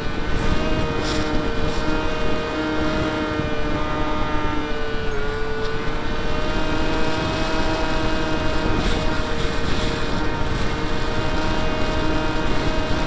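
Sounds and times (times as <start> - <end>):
electric motor and propeller whining: 0.0 - 13.0
wind buffeting microphone: 0.0 - 13.0.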